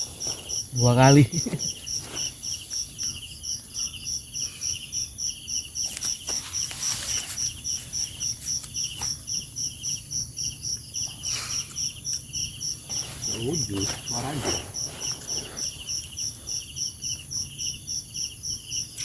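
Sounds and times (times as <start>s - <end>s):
crickets chirping: 0.0s - 19.0s
lower insect trilling: 0.0s - 19.0s.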